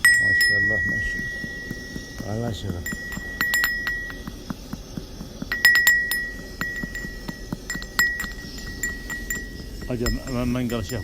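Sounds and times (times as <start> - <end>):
lingering ringing tone: 0.0 - 11.0.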